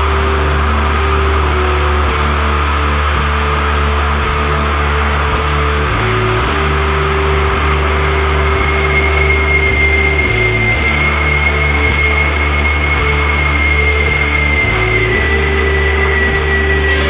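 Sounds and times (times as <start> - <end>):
heavy metal music: 0.0 - 17.0.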